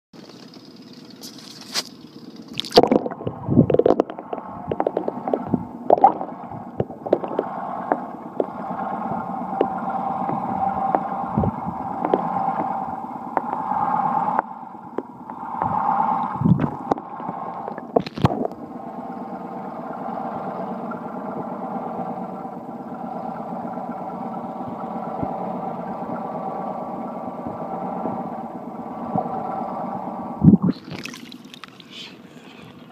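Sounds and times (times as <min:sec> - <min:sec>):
muffled underwater hum: 0:00.2 - 0:32.9.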